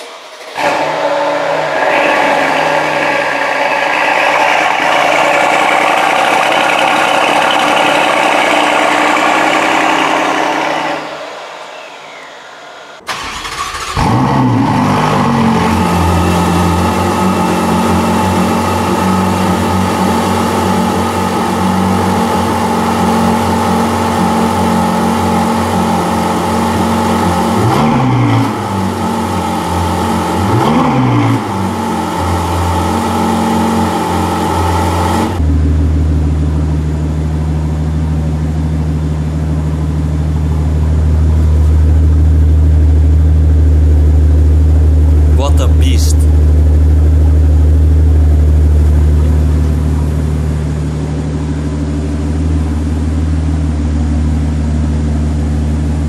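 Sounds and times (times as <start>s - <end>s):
car engine starting and idling: 0.0s - 56.0s
engine running: 0.0s - 56.0s
engine throttle blips: 0.0s - 56.0s.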